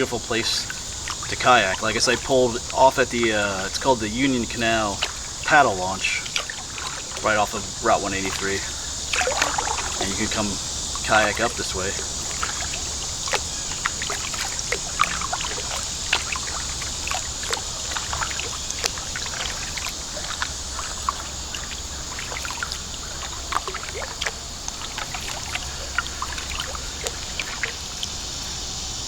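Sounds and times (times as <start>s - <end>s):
hiss of moving water: 0.0s - 29.0s
water drips and splashes: 0.0s - 29.0s
water trickling and lapping: 0.0s - 29.0s.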